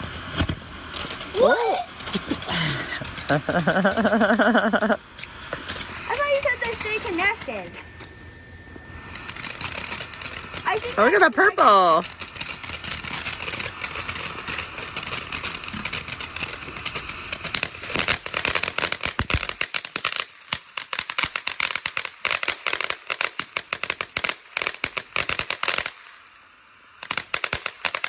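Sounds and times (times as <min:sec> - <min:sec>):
firework crackling: 0:00.0 - 0:28.0
firework hiss: 0:00.0 - 0:28.0.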